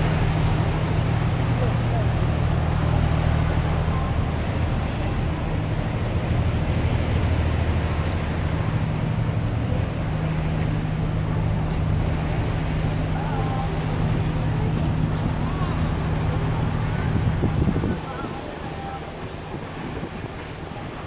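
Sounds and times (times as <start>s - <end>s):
boat engine droning: 0.0s - 21.0s
water splashing around hull: 0.0s - 21.0s.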